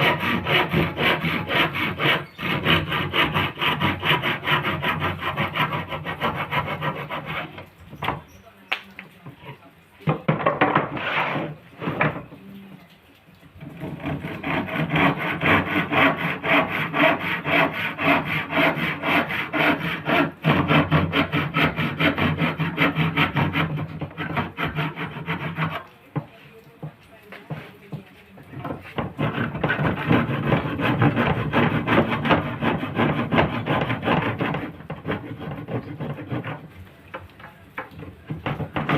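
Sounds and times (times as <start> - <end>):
hand saw cutting wood: 0.0 - 8.3, 10.6 - 12.3, 13.6 - 26.3, 28.4 - 38.9.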